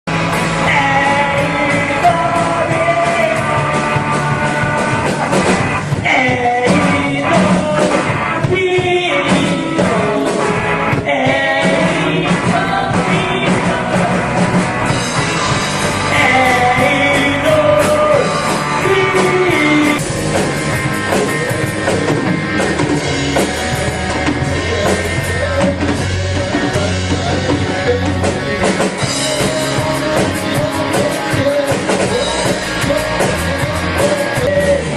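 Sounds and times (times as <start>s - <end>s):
rock song with lead vocal: 0.1s - 34.9s.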